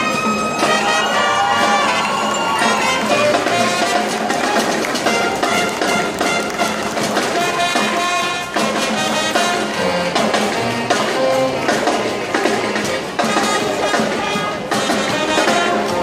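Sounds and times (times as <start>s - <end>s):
marching band brass playing: 0.0s - 16.0s.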